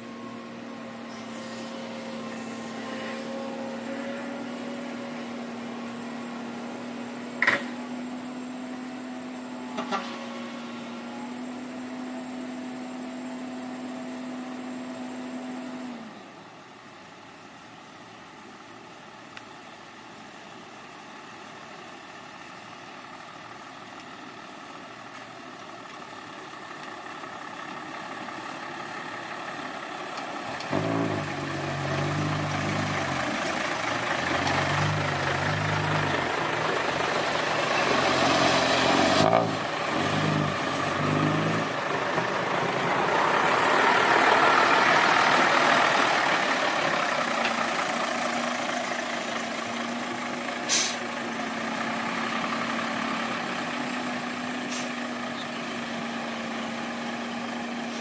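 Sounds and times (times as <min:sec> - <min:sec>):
heavy diesel engine working: 0:00.0 - 0:16.4, 0:19.7 - 0:58.0.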